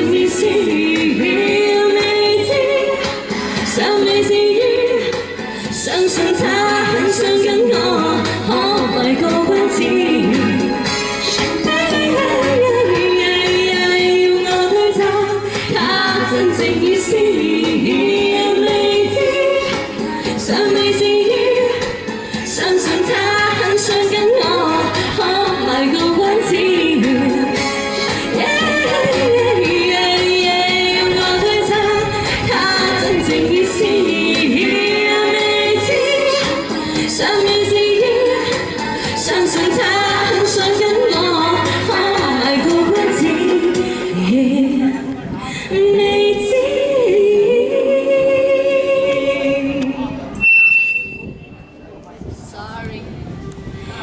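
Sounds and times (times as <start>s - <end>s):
man and woman singing pop duet: 0.0s - 50.2s
pop backing track with beat: 0.0s - 51.8s.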